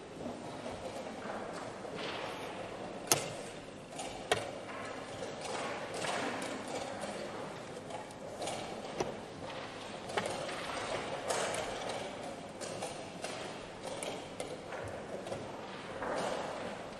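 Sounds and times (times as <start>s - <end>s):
faint background noise: 0.0s - 16.9s.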